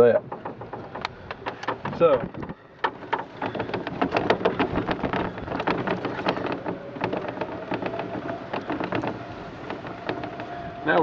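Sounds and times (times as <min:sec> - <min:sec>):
golf cart motor hum: 0:00.0 - 0:11.0
rattles and clicks: 0:00.0 - 0:11.0.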